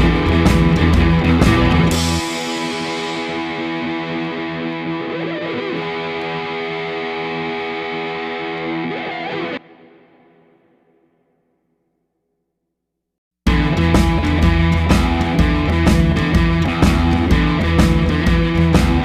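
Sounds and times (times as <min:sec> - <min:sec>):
distorted electric guitar chord: 0:00.0 - 0:10.7, 0:13.5 - 0:19.0.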